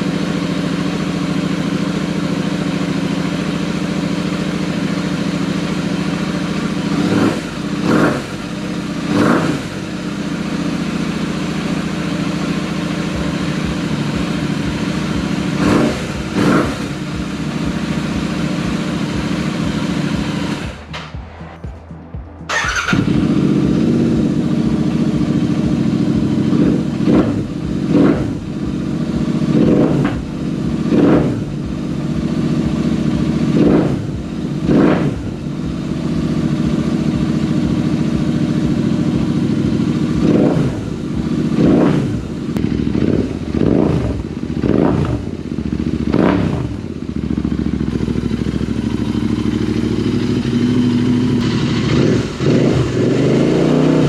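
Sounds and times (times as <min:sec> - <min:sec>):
motorcycle engine revving: 0:00.0 - 0:21.6, 0:22.4 - 0:54.0.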